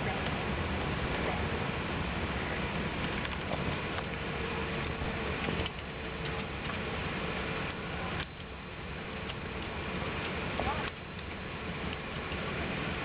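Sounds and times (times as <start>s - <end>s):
aircraft cabin air rush and rumble: 0.0s - 13.0s.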